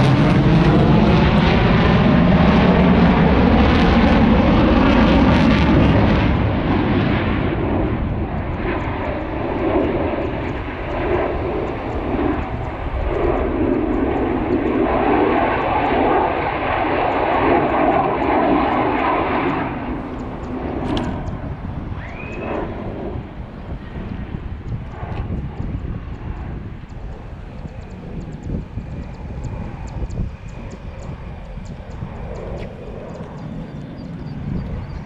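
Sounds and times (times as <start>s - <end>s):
aircraft engine roar: 0.0s - 35.0s.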